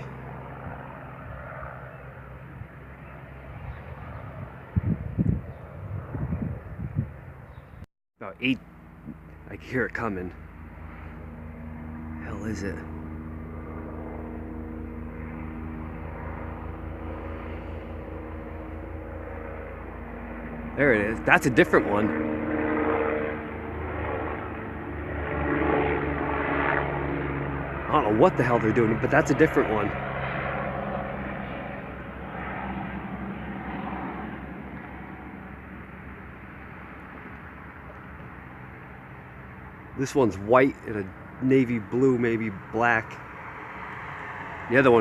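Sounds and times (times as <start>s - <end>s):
helicopter engine and rotor drone: 0.0s - 45.0s.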